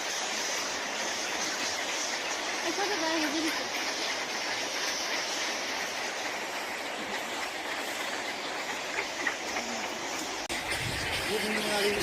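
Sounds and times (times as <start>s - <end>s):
fruit bats calling: 0.0s - 12.0s.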